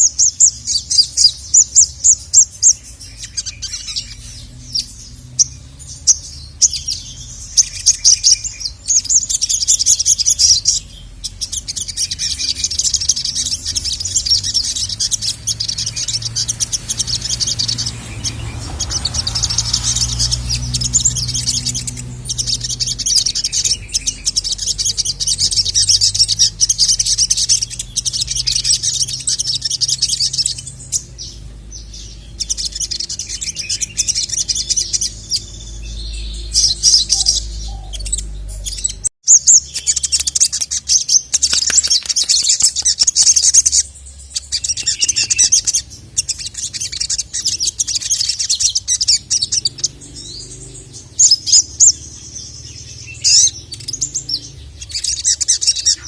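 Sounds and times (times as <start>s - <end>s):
sunbird chattering song: 0.0s - 56.0s.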